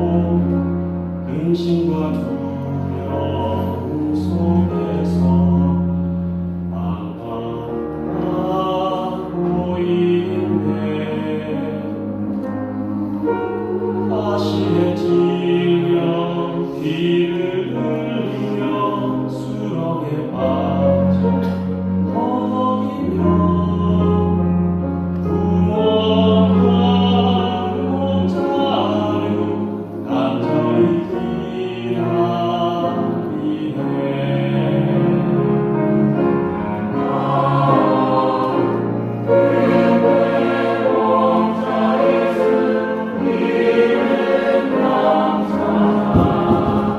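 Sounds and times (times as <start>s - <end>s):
choir singing held chords: 0.0s - 46.9s
low sustained accompaniment: 0.0s - 46.9s.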